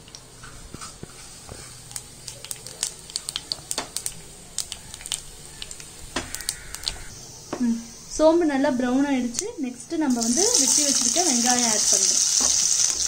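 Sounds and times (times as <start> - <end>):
seeds crackling in hot oil: 0.0 - 7.2, 9.2 - 13.0.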